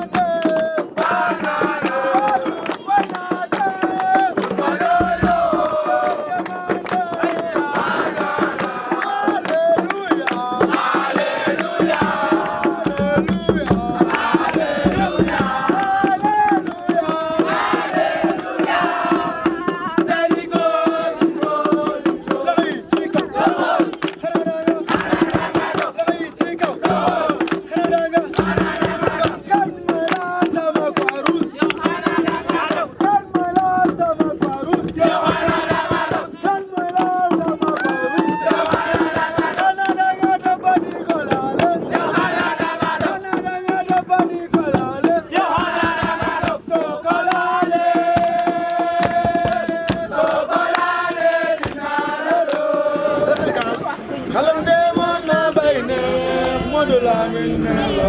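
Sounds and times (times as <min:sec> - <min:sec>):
sharp percussive hits: 0:00.0 - 0:37.9, 0:38.6 - 0:53.7
crowd chanting and singing: 0:00.0 - 0:58.0.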